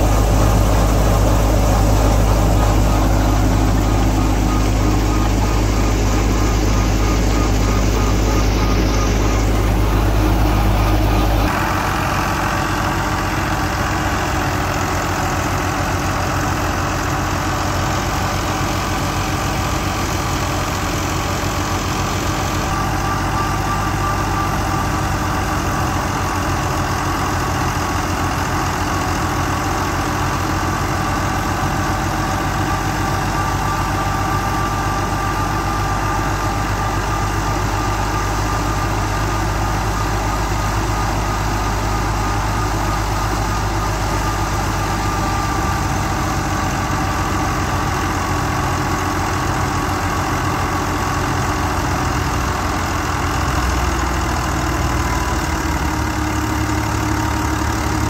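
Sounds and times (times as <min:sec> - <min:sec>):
thresher machinery hum: 0:00.0 - 0:58.0
tractor diesel engine running: 0:00.0 - 0:58.0.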